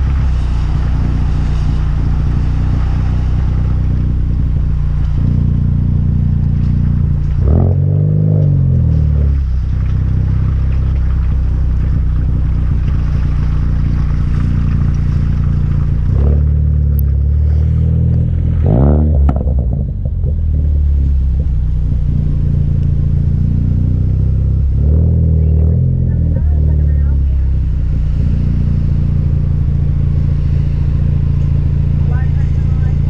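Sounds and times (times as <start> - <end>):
car exhaust drone: 0.0 - 33.0.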